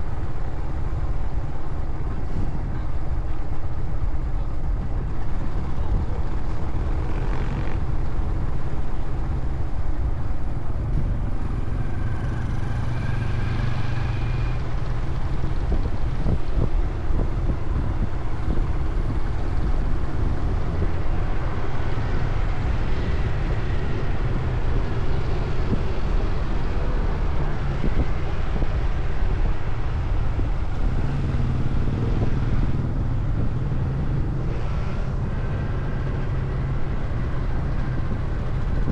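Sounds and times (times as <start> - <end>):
road noise: 0.0 - 38.9
wind rumble on microphone: 0.0 - 38.9.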